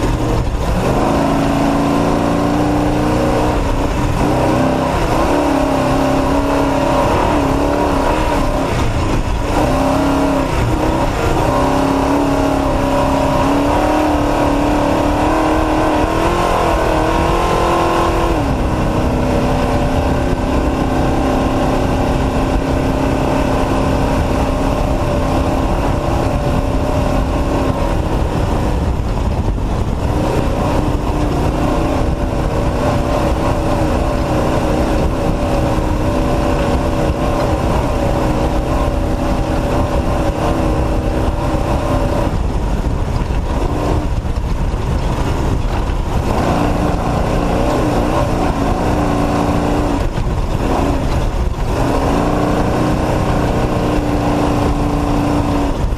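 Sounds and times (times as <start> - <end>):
race truck engine rumbling: 0.0 - 55.9.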